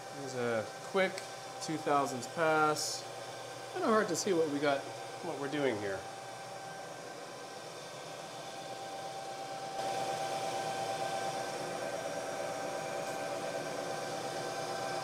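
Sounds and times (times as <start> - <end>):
milling machine humming and whining: 0.0 - 15.0.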